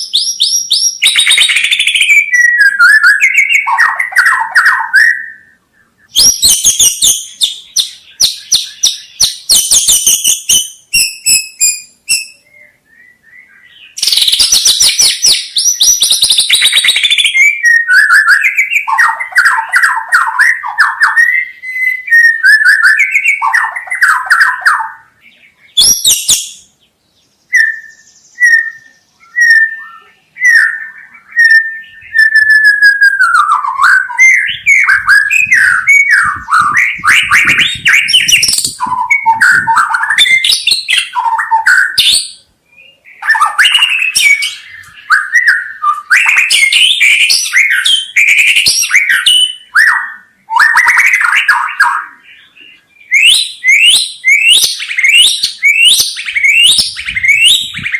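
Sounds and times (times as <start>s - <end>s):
bird singing varied song: 0.0s - 57.9s.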